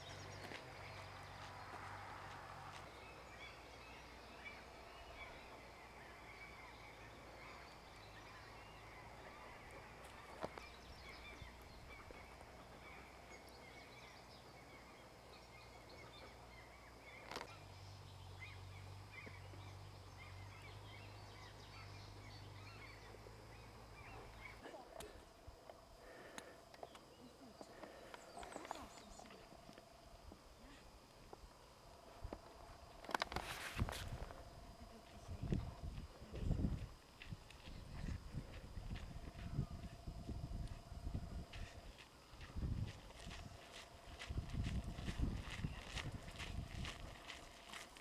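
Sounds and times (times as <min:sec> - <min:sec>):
distant birds chirping: 0:00.0 - 0:48.0
low steady hum: 0:00.0 - 0:48.0.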